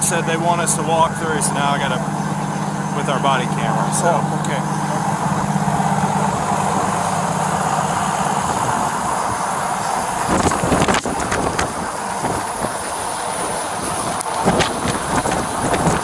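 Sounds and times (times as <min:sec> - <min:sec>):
vehicle engine idling: 0:00.0 - 0:16.0
wind on microphone: 0:02.0 - 0:16.0.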